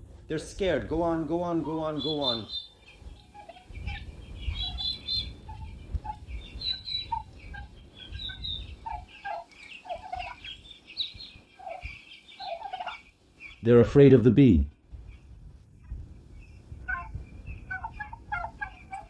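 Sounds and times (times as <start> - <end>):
turkey poults peeping: 0.7 - 19.0.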